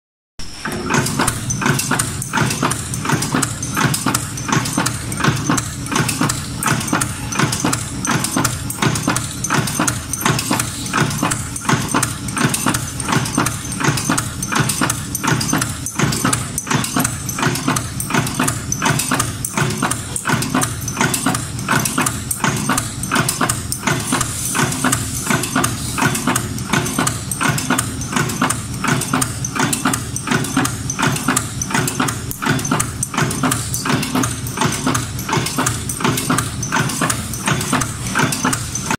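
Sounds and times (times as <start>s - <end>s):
machine press clacking: 0.4s - 38.9s
mechanical hum: 0.4s - 38.9s.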